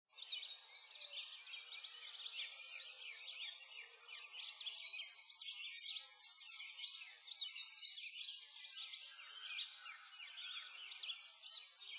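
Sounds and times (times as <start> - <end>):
songbirds chirping: 0.1 - 11.9.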